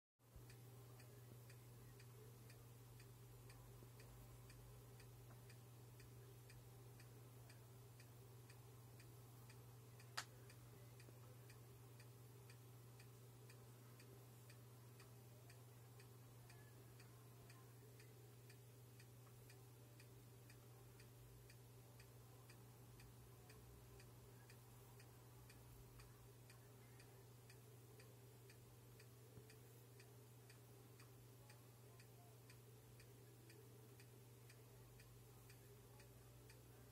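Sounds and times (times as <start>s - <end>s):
faint low hum: 0.3s - 36.9s
faint ticking: 0.3s - 36.9s.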